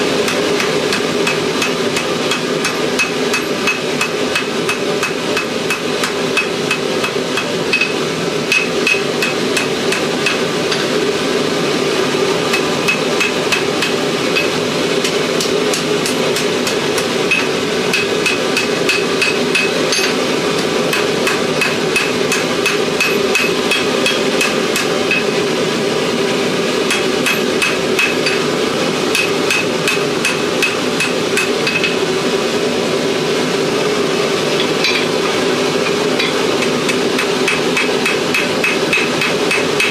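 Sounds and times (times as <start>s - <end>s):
hammer striking steel on anvil: 0.2s - 11.0s, 12.5s - 25.5s, 26.9s - 28.5s, 29.1s - 32.0s, 34.6s - 39.9s.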